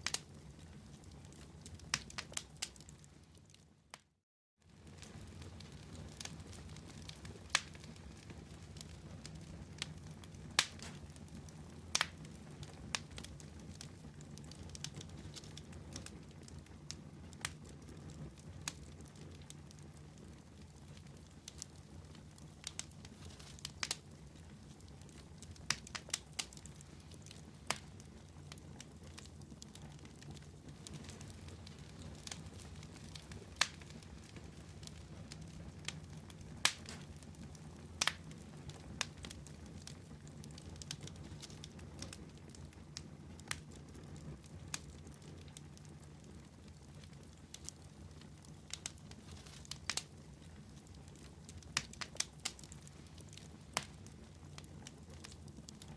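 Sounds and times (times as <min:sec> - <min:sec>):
campfire crackling and popping: 0:00.0 - 0:04.1, 0:04.7 - 0:55.9.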